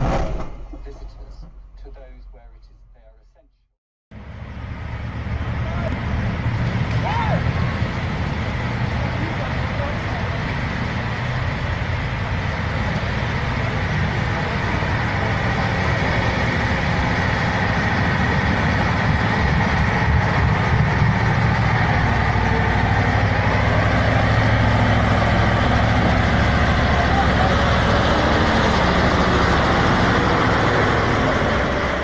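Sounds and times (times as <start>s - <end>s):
heavy truck engine running: 4.1s - 32.0s
dense rushing noise: 4.2s - 32.0s.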